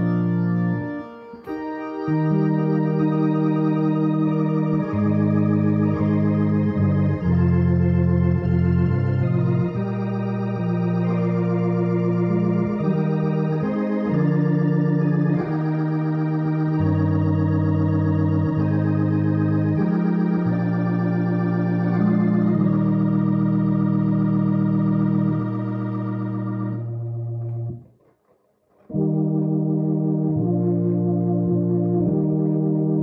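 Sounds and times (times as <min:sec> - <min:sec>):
organ playing slow hymn chords: 0:00.0 - 0:27.9, 0:28.9 - 0:33.0.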